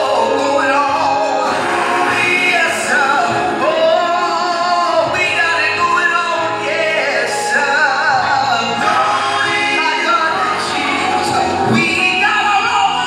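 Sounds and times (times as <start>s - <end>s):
backing music: 0.0s - 13.0s
man singing gospel: 0.0s - 13.0s.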